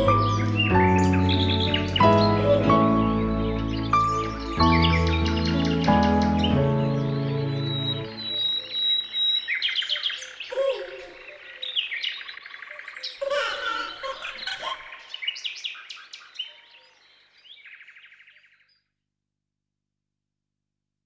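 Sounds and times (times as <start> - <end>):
birds chirping and trilling: 0.0 - 18.9.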